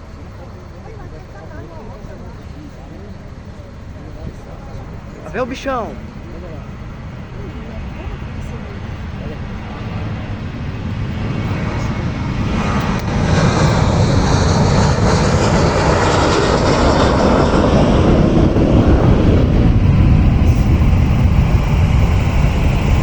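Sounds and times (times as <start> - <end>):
jet engines at takeoff: 0.0 - 23.0.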